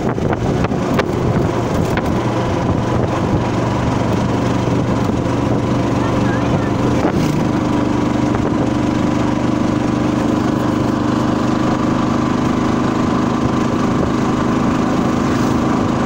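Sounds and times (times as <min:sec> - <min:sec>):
road noise: 0:00.0 - 0:16.0
vehicle engine running: 0:00.0 - 0:16.0.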